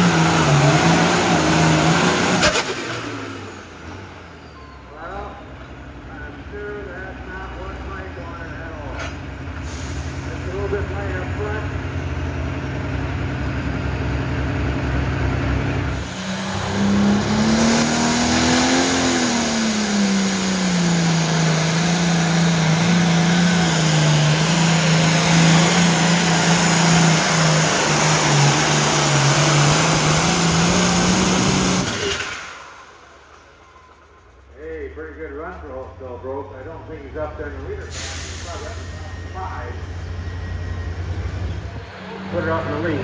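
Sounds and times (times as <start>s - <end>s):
second tractor engine running: 0.0s - 43.0s
tractor diesel engine under load: 0.0s - 43.0s.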